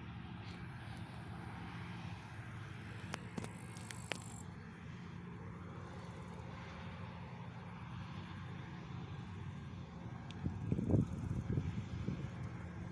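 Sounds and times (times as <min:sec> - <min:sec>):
distant combine harvester drone: 0:00.0 - 0:12.9.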